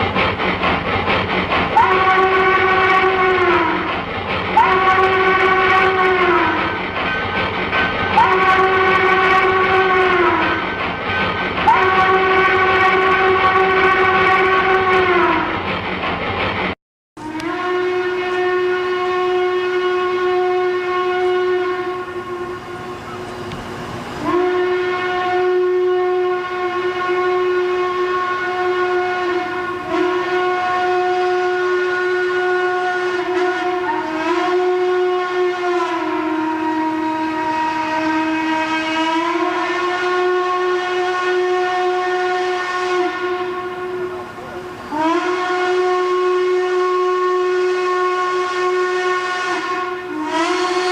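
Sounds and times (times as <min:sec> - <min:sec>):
train whistle blowing: 0:00.0 - 0:15.8, 0:17.2 - 0:50.9.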